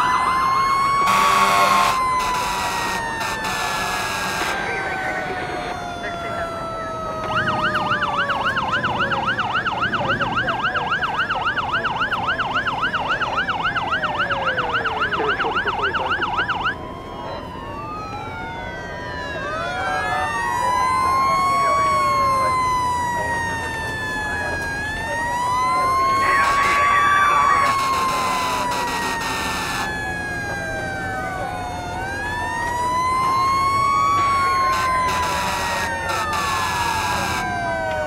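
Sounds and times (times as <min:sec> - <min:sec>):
electronic siren yelp: 0:00.0 - 0:38.0
wailing sirens: 0:00.0 - 0:38.0.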